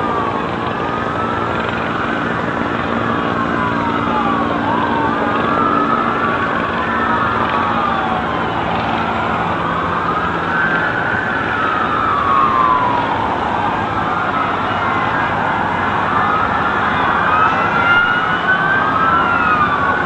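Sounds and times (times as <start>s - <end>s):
emergency sirens wailing: 0.0s - 20.0s.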